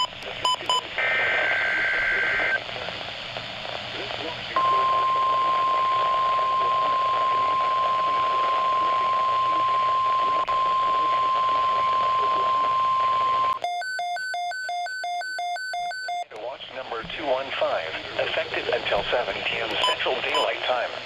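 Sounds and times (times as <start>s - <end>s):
radio static: 0.0s - 13.6s, 16.3s - 21.0s.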